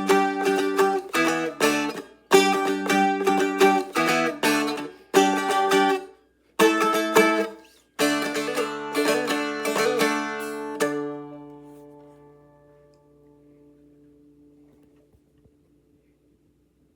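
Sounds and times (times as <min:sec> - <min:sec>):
guitar chords strummed: 0:00.0 - 0:14.6.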